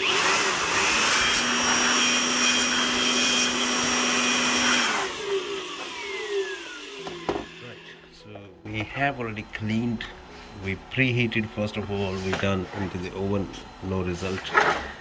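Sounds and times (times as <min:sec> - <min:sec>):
electric air blower: 0:00.0 - 0:08.2, 0:09.0 - 0:15.0.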